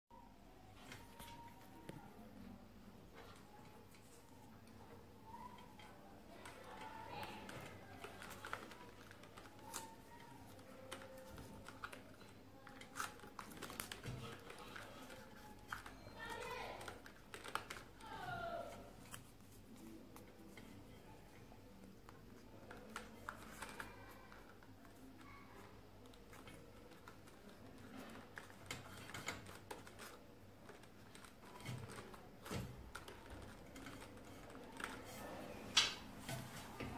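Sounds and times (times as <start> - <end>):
hands clicking and rustling plastic: 3.1 - 36.9.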